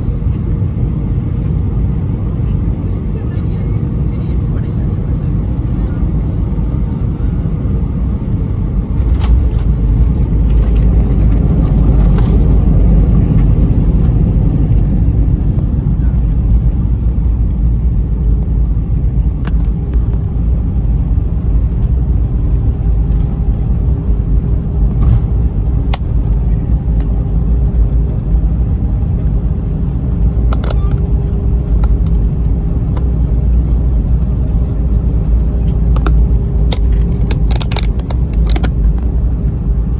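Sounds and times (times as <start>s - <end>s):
airliner rolling rumble: 0.0s - 39.9s.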